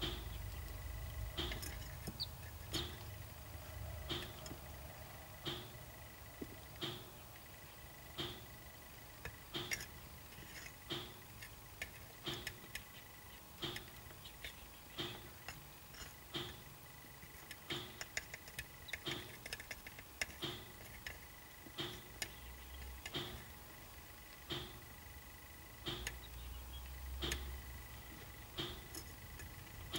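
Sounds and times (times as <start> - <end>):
chicks pecking at plastic: 0.0 - 4.8, 8.2 - 23.7, 25.8 - 29.9.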